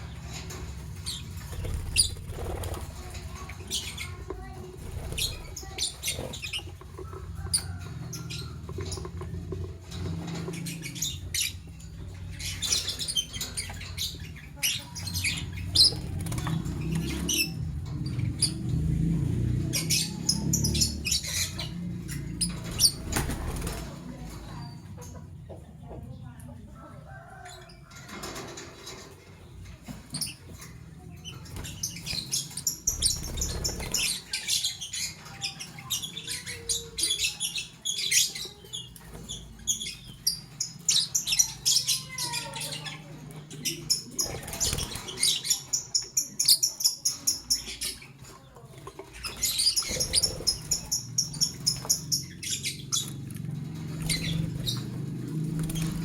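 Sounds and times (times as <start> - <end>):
lovebirds chattering: 0.0 - 56.0.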